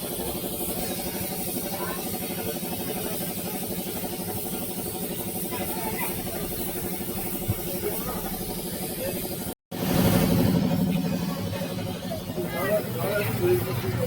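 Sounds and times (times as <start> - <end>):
machine running with fast pulsing: 0.0 - 14.0.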